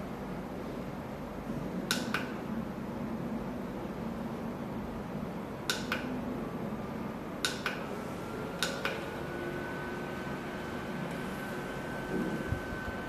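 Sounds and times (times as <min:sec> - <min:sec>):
table fan running: 0:00.0 - 0:13.0.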